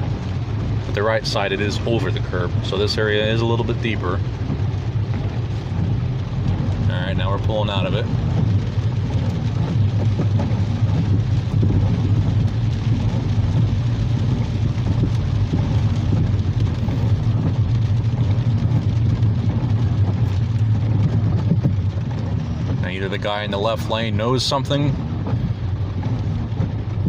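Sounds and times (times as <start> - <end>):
car engine and road drone: 0.0 - 27.0
heavy rain and water spray: 0.0 - 27.0.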